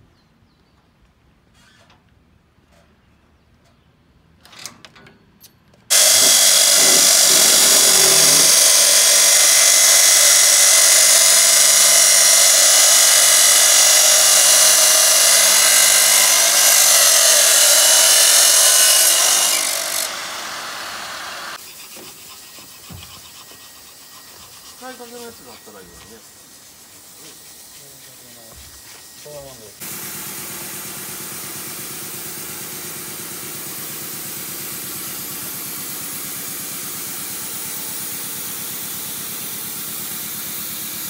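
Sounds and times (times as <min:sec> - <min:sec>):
cut-off saw grinding steel: 0:05.9 - 0:41.0.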